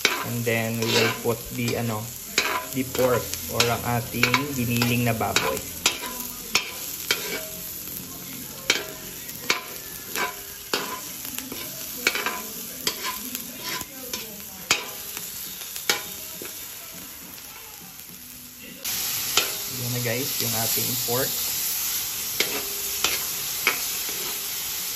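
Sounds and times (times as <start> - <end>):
metal spatula scraping wok: 0.0 - 17.7, 18.8 - 24.9
onion sizzling in hot oil: 0.0 - 24.9.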